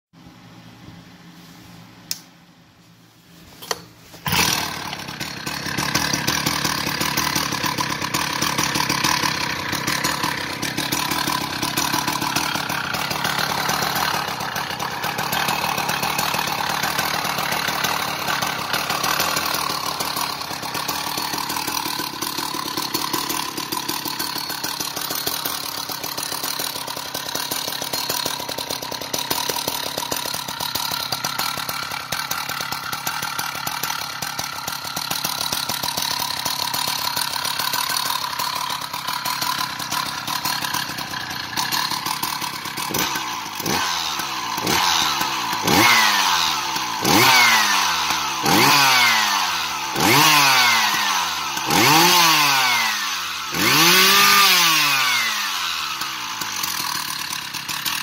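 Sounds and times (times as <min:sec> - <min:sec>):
chainsaw engine running: 0:03.6 - 0:58.0.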